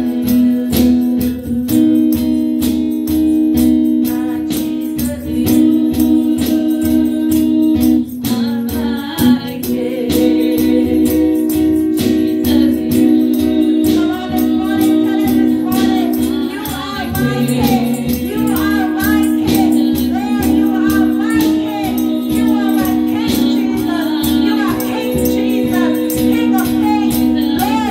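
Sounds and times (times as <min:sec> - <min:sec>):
steady percussion beat: 0:00.0 - 0:27.9
women singing gospel: 0:00.0 - 0:27.9.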